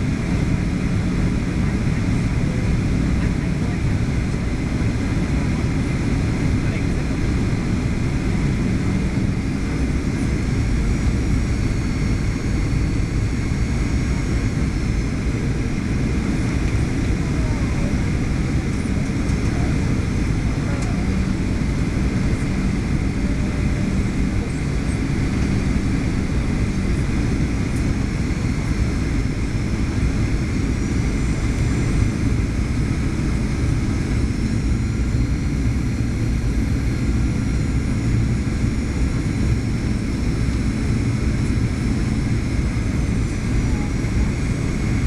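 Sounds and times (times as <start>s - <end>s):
jet engine and airflow rumble: 0.0s - 45.0s.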